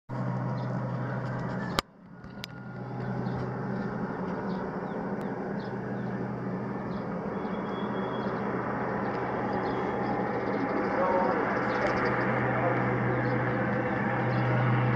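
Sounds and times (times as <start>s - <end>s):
turboprop plane drone: 0.1s - 14.9s.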